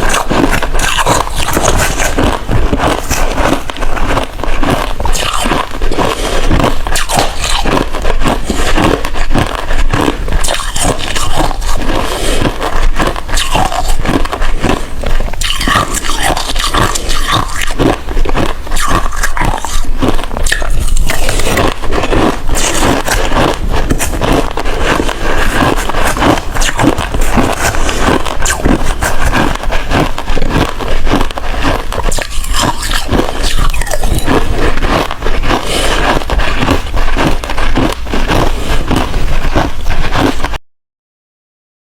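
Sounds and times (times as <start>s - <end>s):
ice being crunched: 0.0s - 40.6s.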